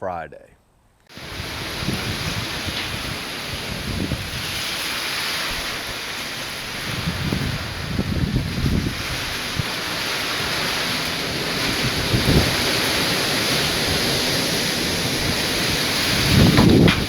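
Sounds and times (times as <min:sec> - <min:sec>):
heavy rain: 0:01.1 - 0:17.0
wind gusts rumbling: 0:01.1 - 0:17.0.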